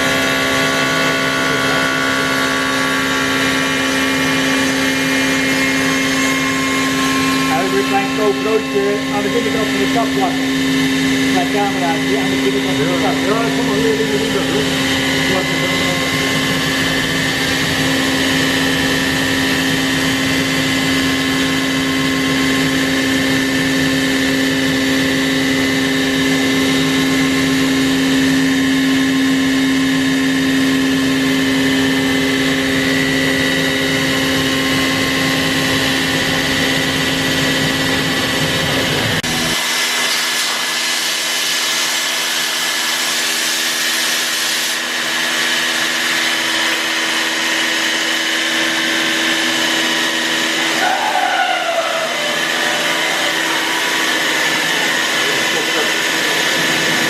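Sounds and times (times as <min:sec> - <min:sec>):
cnc router whining: 0:00.0 - 0:57.0.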